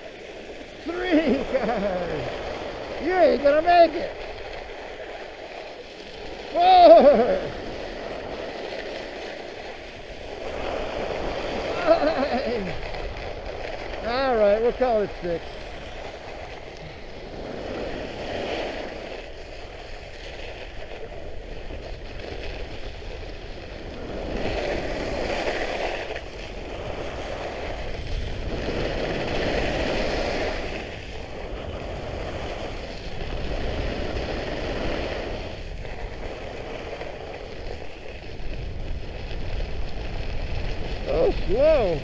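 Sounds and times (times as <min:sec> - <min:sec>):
skis scraping over snow: 0:00.0 - 0:42.0
wind rumbling on microphone: 0:00.0 - 0:42.0.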